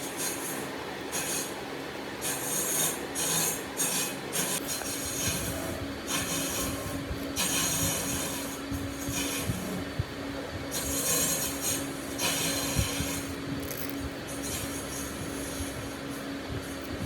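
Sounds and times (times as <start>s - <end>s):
steady low hum: 0.0s - 17.0s
wood being rasped by hand: 2.2s - 9.9s, 10.7s - 17.0s.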